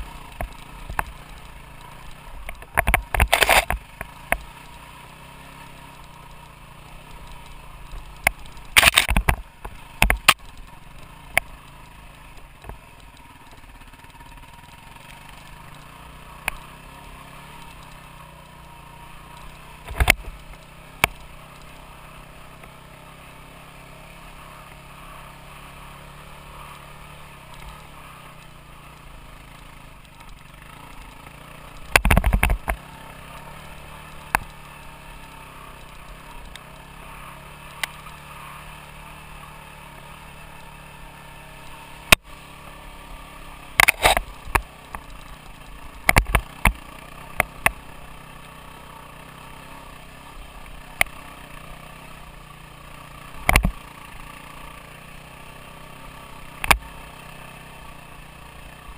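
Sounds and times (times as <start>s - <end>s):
knocks and rattles of bike: 0.0s - 58.9s
motorcycle engine running: 0.0s - 58.9s.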